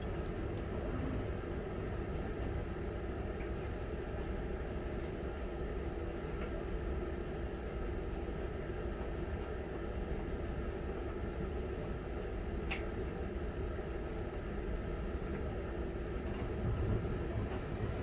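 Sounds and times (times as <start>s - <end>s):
washing machine rumble and hum: 0.0s - 18.0s.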